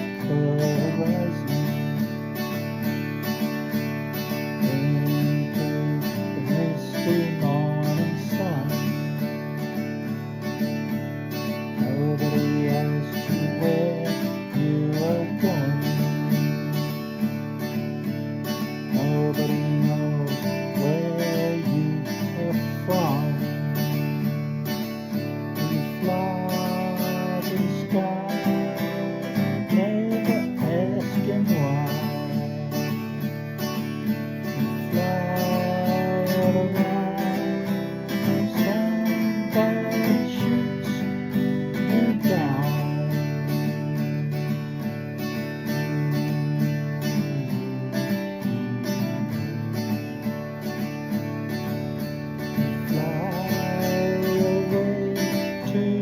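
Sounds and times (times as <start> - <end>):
acoustic guitar strumming: 0.0 - 56.0
bending guitar melody: 0.0 - 56.0.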